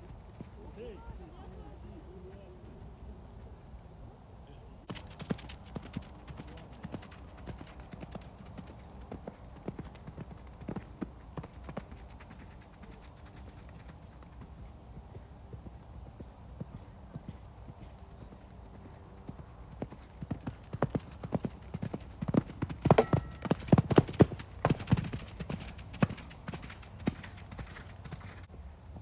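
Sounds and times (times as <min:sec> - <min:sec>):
horse hoofbeats on sand: 0:04.9 - 0:29.0.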